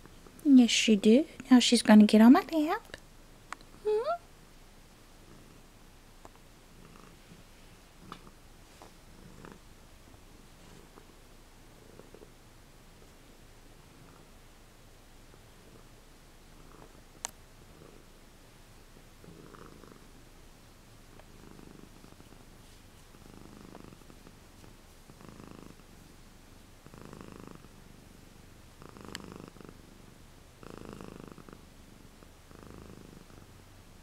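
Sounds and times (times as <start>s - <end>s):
cat purring: 5.1s - 20.3s, 21.0s - 33.8s.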